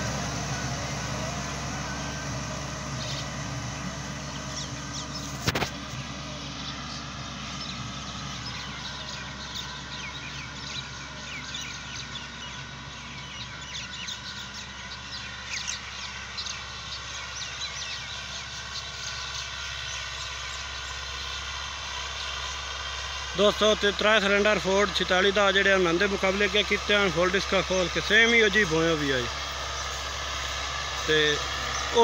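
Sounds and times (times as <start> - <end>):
distant tractor engine: 0.0 - 32.0
small birds chirping: 0.0 - 32.0.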